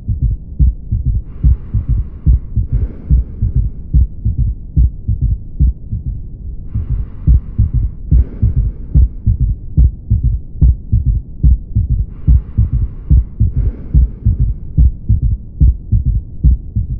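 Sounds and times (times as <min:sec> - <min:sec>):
galloping heartbeat thuds: 0:00.0 - 0:16.9.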